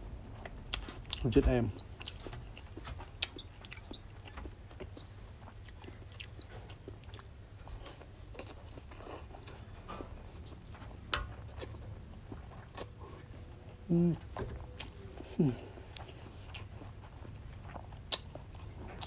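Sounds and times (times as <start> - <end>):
person chewing noodles: 0.0 - 19.0.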